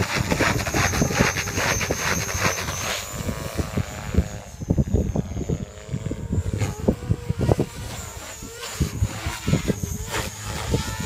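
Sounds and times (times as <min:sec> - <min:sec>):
rc helicopter motor whine: 0:00.0 - 0:11.0
wind buffeting microphone: 0:00.0 - 0:11.0.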